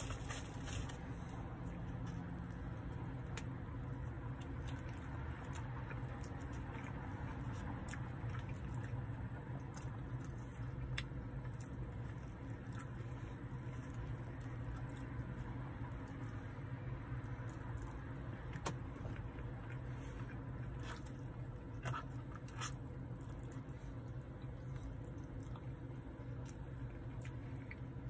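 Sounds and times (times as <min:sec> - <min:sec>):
low hum inside car: 0:00.0 - 0:28.0
person chewing food: 0:00.0 - 0:28.0.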